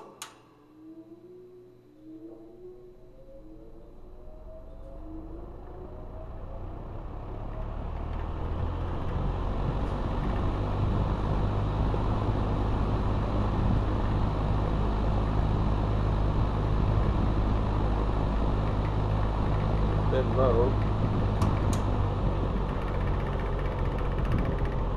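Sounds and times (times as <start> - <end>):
box fan running: 0.0 - 24.9.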